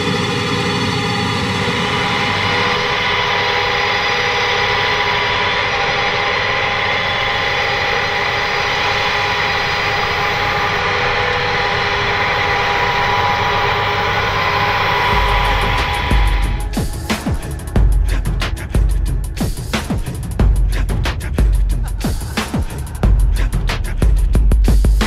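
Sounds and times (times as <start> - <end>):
rotary power harrow working soil: 0.0 - 23.0
tractor diesel engine under load: 0.0 - 24.3.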